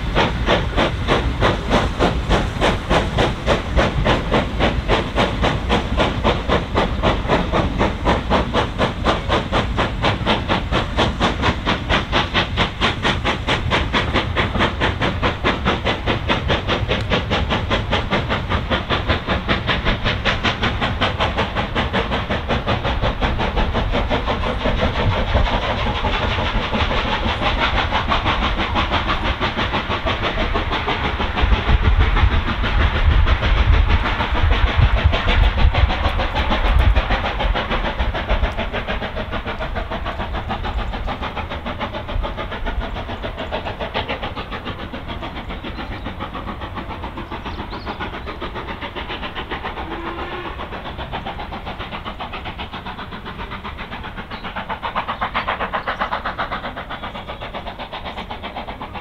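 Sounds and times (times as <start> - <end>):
steam locomotive exhaust beats: 0.0 - 59.0
train rumble: 0.0 - 59.0.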